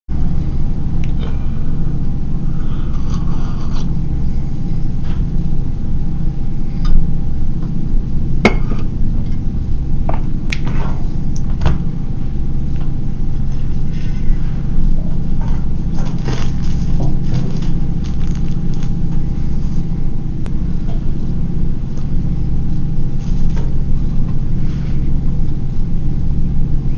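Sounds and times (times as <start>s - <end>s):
steady low rumble: 0.1s - 26.9s.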